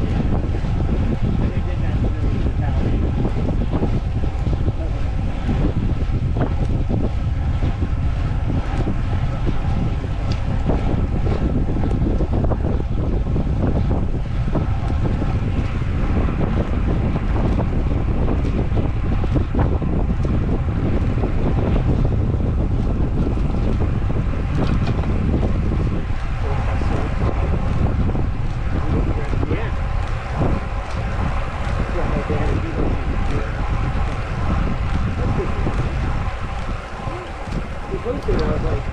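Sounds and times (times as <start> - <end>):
wind rumbling on microphone: 0.0 - 38.9.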